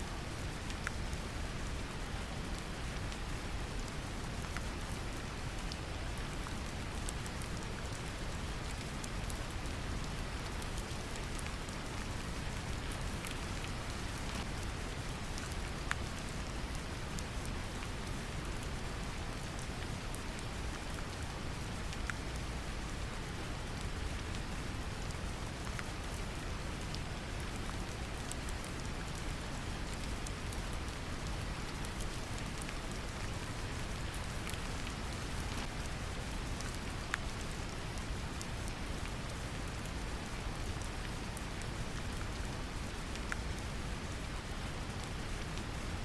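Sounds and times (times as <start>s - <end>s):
gentle rain pattering: 0.0s - 46.0s.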